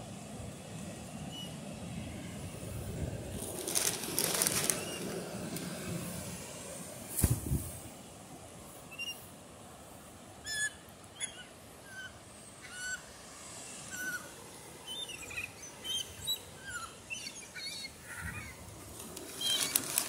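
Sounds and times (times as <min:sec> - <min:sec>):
surf hissing: 0:00.0 - 0:10.4, 0:11.6 - 0:20.0.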